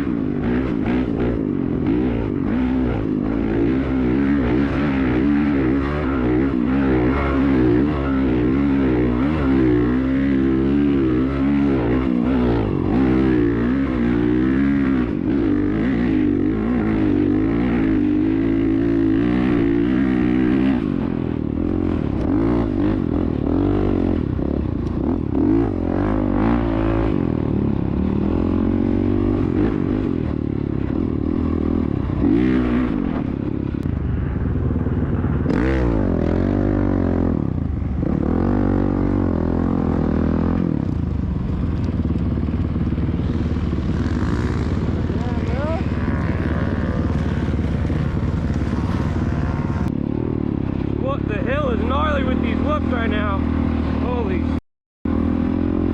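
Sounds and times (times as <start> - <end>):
dirt bike engine revving: 0.0 - 34.4, 35.0 - 55.9.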